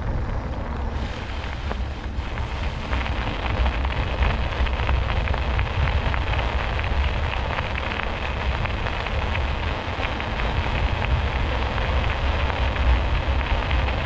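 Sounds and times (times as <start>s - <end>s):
tyres crackling over trail: 0.0s - 14.0s
wind rumbling on microphone: 0.0s - 14.0s.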